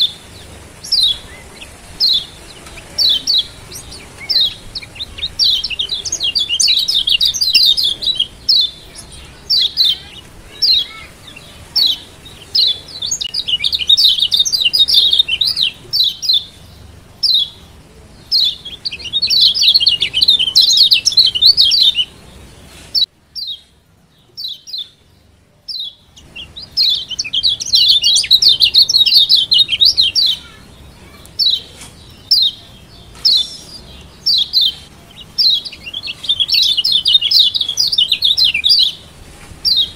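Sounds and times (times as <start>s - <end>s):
bird twittering and chirping: 0.0s - 39.9s.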